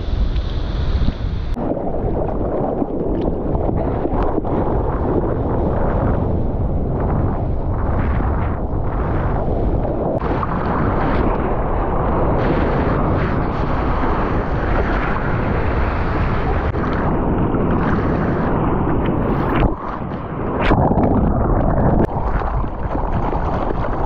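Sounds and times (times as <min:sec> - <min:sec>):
water rushing and splashing: 0:00.0 - 0:06.3, 0:07.0 - 0:24.0
wind buffeting microphone: 0:00.0 - 0:24.0.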